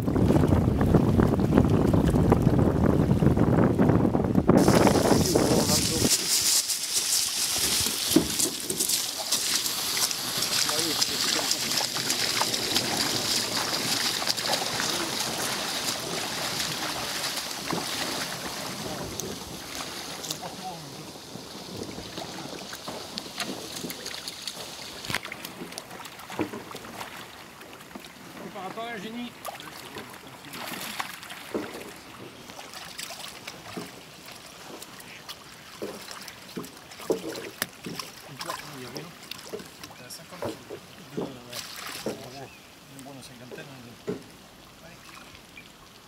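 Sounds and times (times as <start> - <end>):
boots sloshing through water: 4.6 - 42.7.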